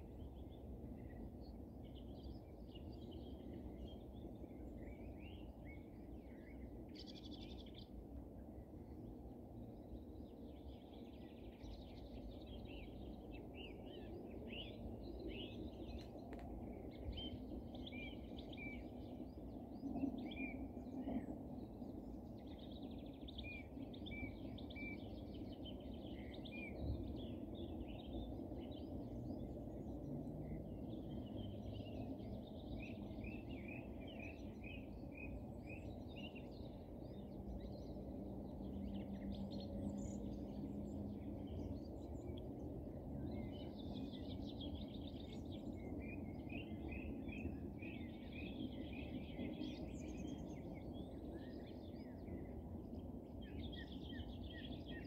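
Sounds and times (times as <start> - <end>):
small birds chirping: 0.0 - 55.0
low background rumble: 0.1 - 55.0.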